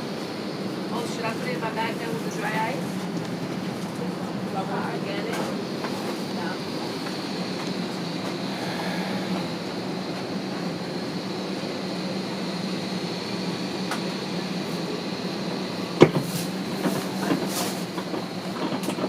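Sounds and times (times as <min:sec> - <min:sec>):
airliner cabin hum: 0:00.0 - 0:19.0.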